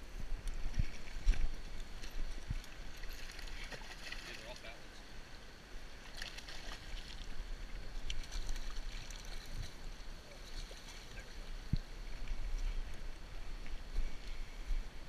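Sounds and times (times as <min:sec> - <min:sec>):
wind rumbling on microphone: 0:00.0 - 0:04.2, 0:05.8 - 0:15.0
flowing creek water: 0:00.0 - 0:15.0.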